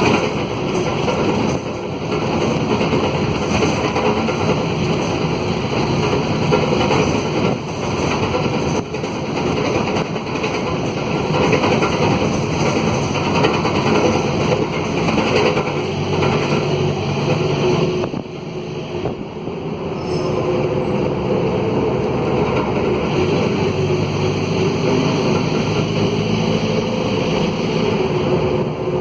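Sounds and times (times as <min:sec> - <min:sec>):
loud diesel bus engine running: 0:00.0 - 0:29.0.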